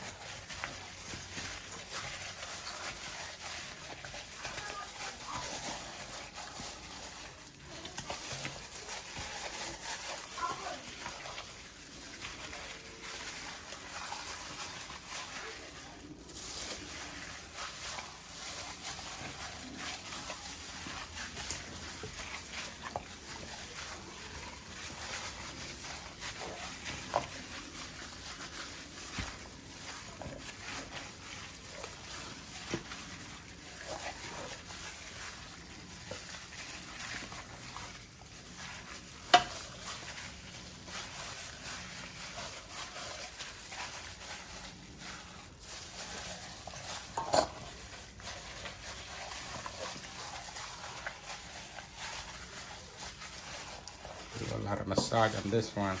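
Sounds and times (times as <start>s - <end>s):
hands squelching raw meat: 0.0s - 56.0s.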